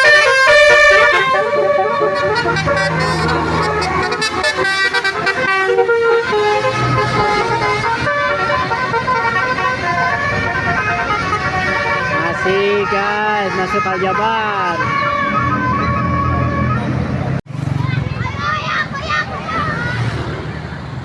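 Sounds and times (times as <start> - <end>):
musical bus horn melody: 0.0 - 17.4
bus engine rumble: 0.0 - 21.0.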